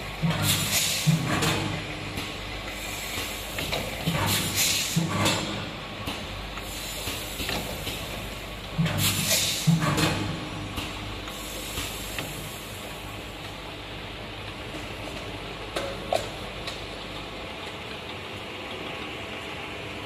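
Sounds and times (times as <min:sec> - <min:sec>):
filling machine humming and hissing: 0:00.0 - 0:16.8.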